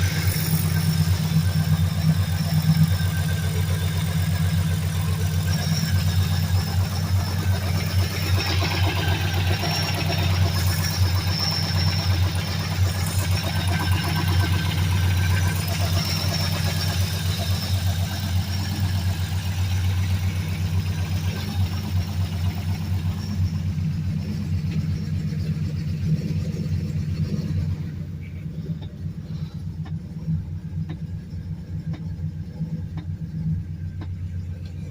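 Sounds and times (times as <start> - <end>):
engine idling with deep exhaust: 0.0 - 34.9.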